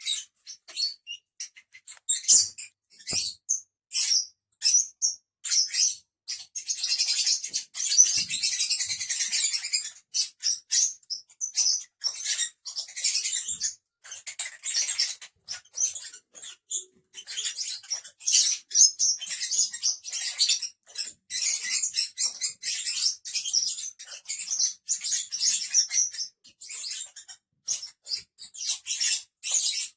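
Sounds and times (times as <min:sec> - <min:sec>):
lovebirds chattering: 0:00.0 - 0:29.9.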